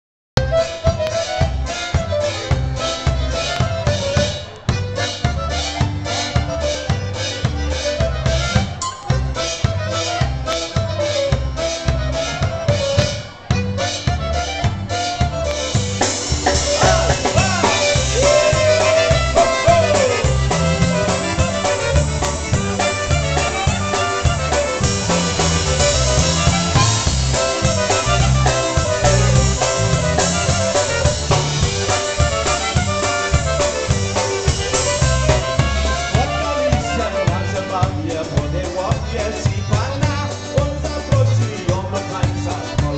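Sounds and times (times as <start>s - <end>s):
drum kit beat: 0.4s - 42.9s
polka band playing: 0.4s - 42.9s.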